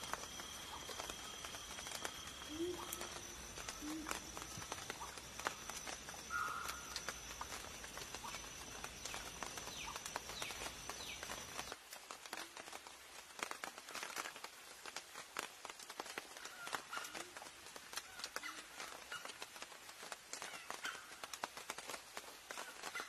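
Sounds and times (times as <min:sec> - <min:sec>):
rain dripping in forest: 0:00.0 - 0:23.0.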